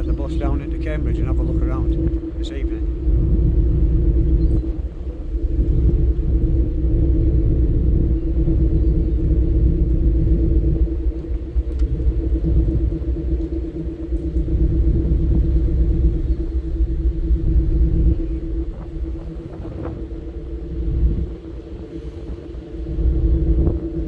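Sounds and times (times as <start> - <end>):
ferry machinery drone: 0.0 - 24.0
wind buffeting microphone: 0.0 - 24.0.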